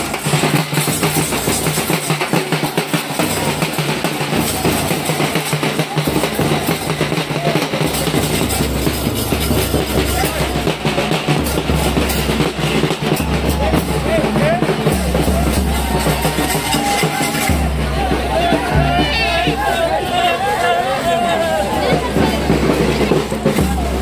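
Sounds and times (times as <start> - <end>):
loud drum-heavy music: 0.0 - 20.2, 21.4 - 24.0.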